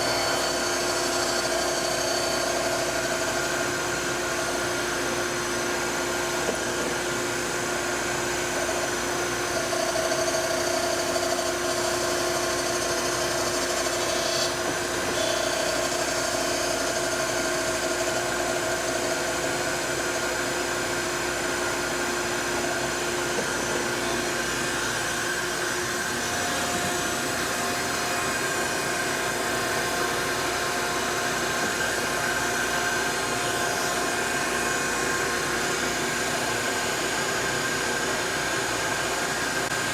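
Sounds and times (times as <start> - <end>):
surface grinder motor whine: 0.0 - 39.9.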